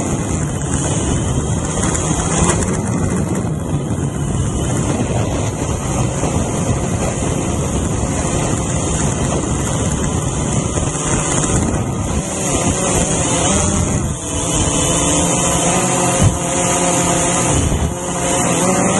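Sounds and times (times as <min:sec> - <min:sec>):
drone motors and propellers: 0:00.0 - 0:18.9
wind on microphone: 0:00.0 - 0:18.9.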